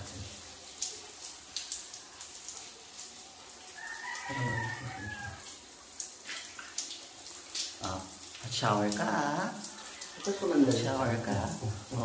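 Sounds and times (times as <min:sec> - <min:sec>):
shower water splashing: 0:00.0 - 0:12.0.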